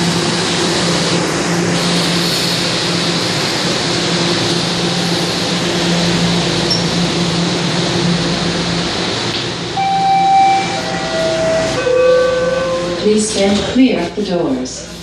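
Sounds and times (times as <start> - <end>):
subway car hiss: 0.0 - 15.0.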